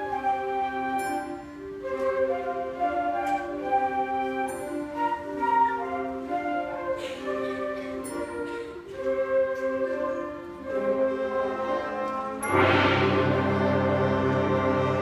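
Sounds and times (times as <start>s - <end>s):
concert band playing slow piece: 0.0s - 15.0s.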